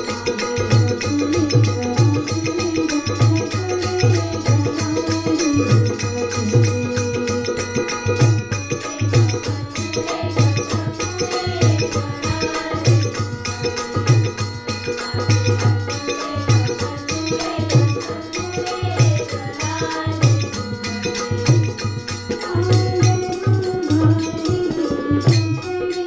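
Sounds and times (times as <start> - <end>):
steady drum beat: 0.0 - 25.9
devotional melody: 0.0 - 26.0
hand percussion: 0.0 - 26.0.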